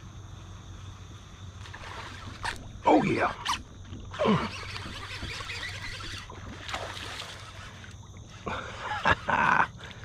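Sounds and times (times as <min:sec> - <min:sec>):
water lapping around kayak: 0:01.6 - 0:10.0.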